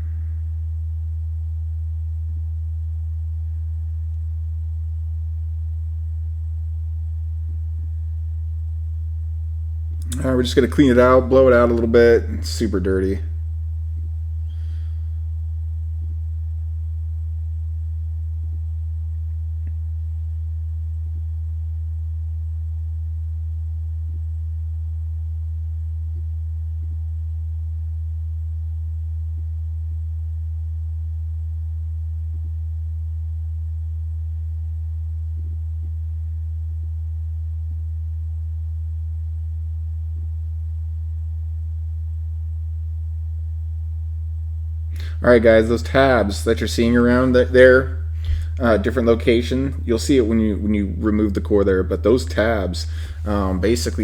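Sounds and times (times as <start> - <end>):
low-pitched hum: 0.0 - 54.0.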